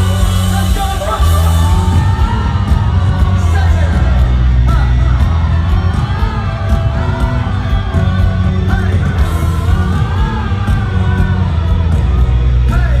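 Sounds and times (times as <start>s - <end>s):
live pop music: 0.0s - 13.0s
person singing: 0.0s - 13.0s.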